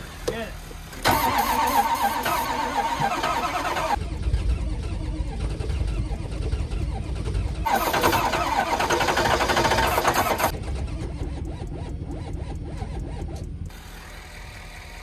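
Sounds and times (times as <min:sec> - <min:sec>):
diesel engine cranking: 0:00.8 - 0:15.0.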